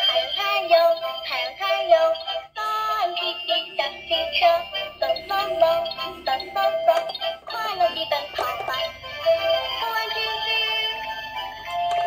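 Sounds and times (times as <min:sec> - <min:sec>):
toy playing electronic children's song: 0:00.0 - 0:12.0.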